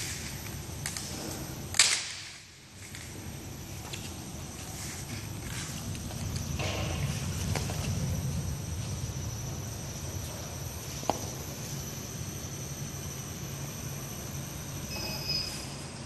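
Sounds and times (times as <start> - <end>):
low machinery hum: 0.0 - 16.0
thin high whine: 2.3 - 16.0.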